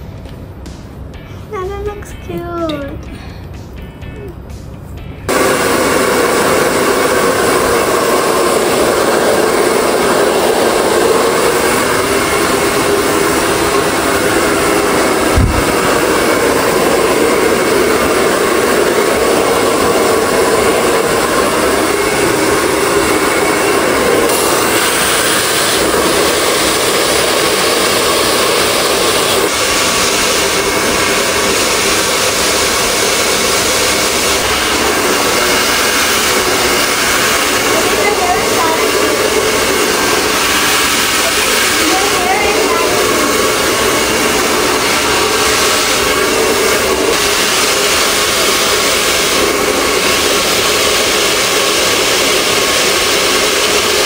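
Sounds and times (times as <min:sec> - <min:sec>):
hair dryer blowing: 0:05.3 - 0:54.0.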